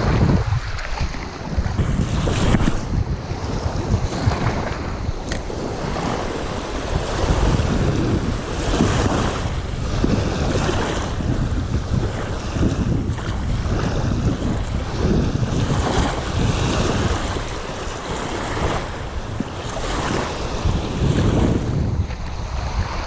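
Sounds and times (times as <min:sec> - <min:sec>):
waves washing: 0:00.0 - 0:23.0
wind buffeting microphone: 0:00.0 - 0:23.0.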